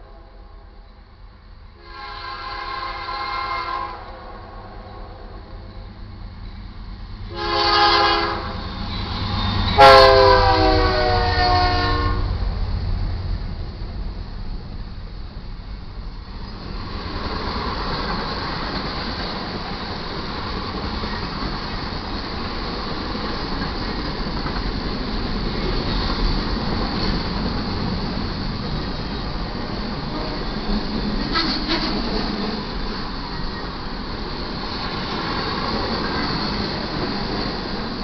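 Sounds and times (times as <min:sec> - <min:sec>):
freight train wheels rumbling on rail: 0:00.0 - 0:38.0.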